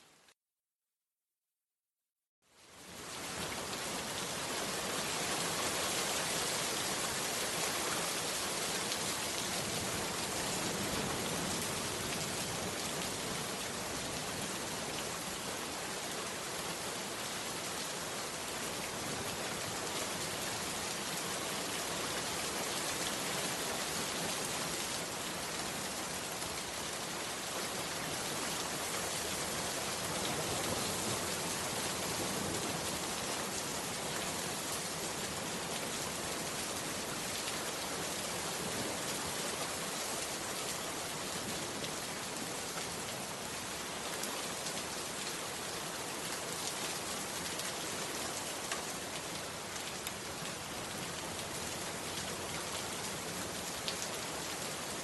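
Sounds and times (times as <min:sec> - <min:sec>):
heavy rain falling: 0:02.8 - 0:55.0.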